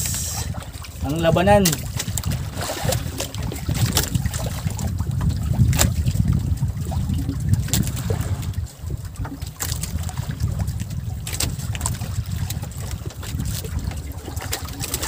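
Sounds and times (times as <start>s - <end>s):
water lapping against hull: 0.0s - 15.0s
wind buffeting microphone: 0.0s - 15.0s
short splashes or knocks: 0.5s - 15.0s.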